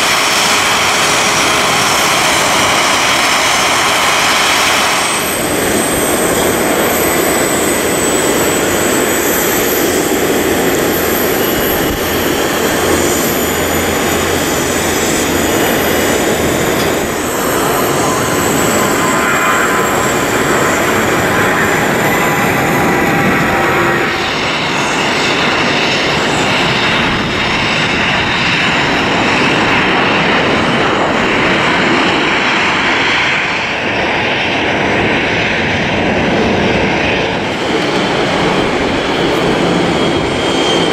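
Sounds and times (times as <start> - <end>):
high fan whine: 0.0 - 40.9
jet engines roaring: 0.0 - 40.9.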